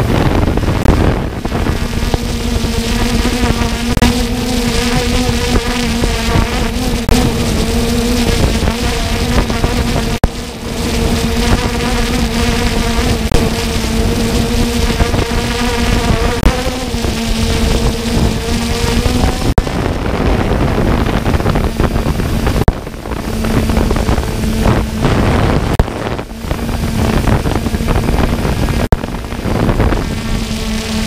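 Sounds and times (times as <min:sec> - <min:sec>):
drone propellers buzzing: 0:00.0 - 0:31.0
wind noise on microphone: 0:00.0 - 0:31.0.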